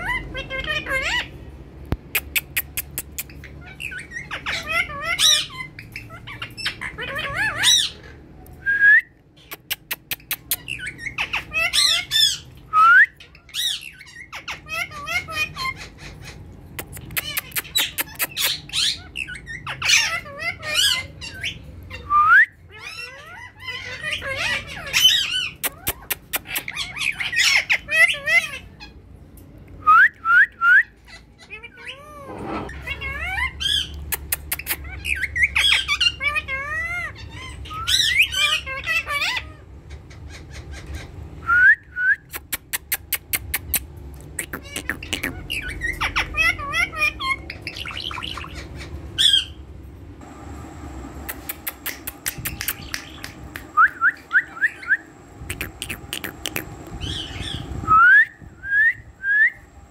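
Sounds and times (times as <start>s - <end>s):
parakeets squawking: 0.0s - 8.4s, 9.3s - 29.2s, 30.8s - 41.4s, 42.3s - 49.7s, 51.2s - 57.8s.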